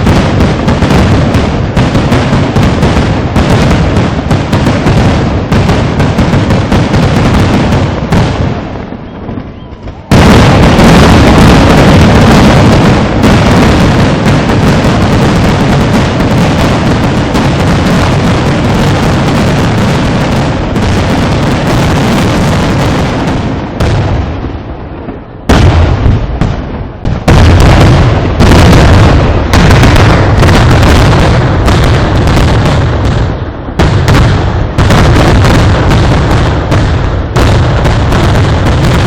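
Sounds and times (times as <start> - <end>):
firework explosions: 0.0 - 39.0.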